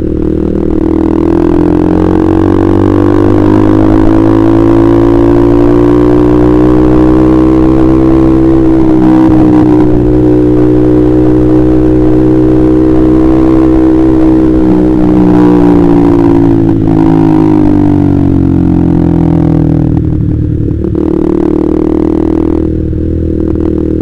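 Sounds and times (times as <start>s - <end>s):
motorcycle engine running loud: 0.0s - 24.0s.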